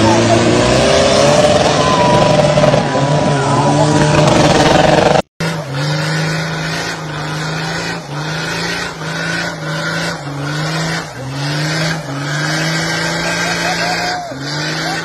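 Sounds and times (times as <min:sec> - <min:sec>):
engine revving during burnout: 0:00.0 - 0:15.0
pickup engine running hard: 0:00.0 - 0:15.0.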